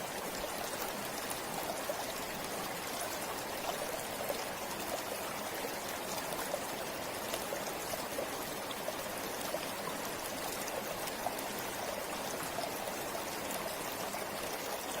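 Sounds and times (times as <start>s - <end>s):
river water babbling: 0.0s - 15.0s.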